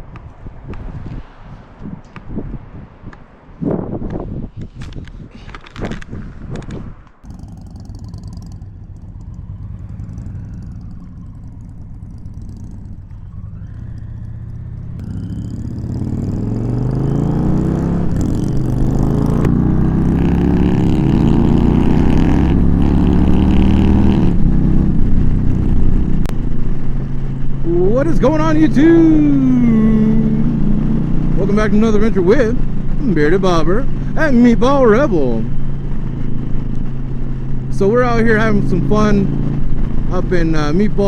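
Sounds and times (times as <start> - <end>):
motorcycle engines accelerating: 7.2 - 41.0.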